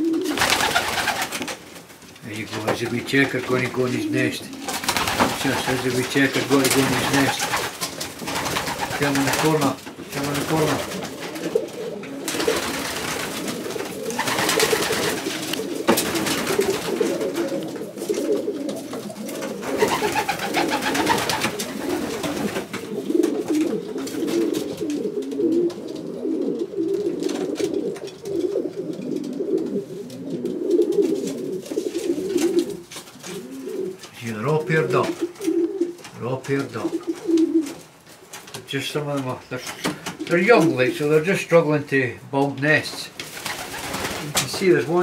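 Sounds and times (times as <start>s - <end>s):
pigeons cooing: 0.0s - 38.4s.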